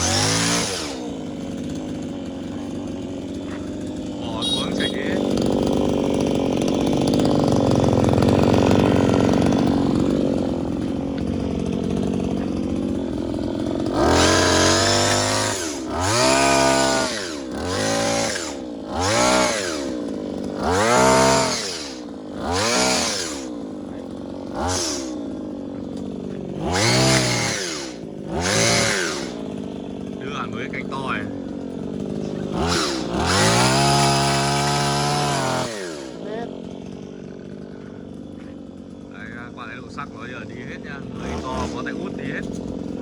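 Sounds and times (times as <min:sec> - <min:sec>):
hedge trimmer engine revving: 0:00.0 - 0:43.0.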